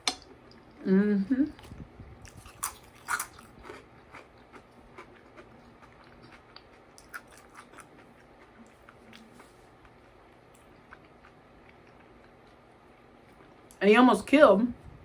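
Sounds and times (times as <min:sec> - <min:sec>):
person chewing food: 0:01.6 - 0:13.6.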